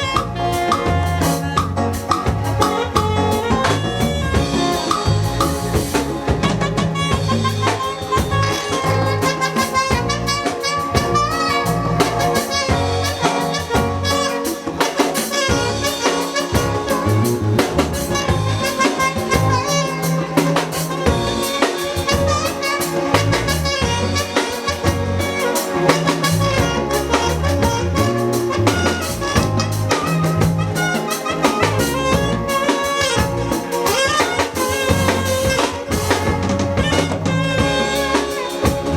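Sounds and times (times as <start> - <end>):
drum kit beat: 0.0 - 38.9
live band playing: 0.0 - 38.9.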